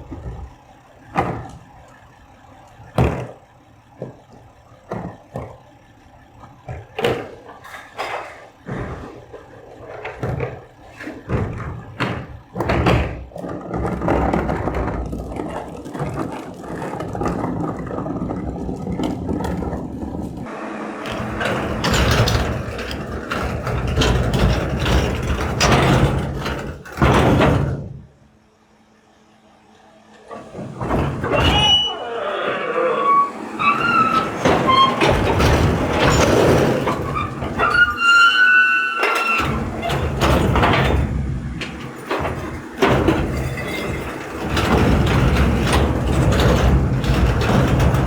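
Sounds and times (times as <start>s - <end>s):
garbage truck running: 0.0s - 48.0s
knocks and clatter: 6.4s - 28.2s, 30.3s - 32.2s, 33.1s - 48.0s.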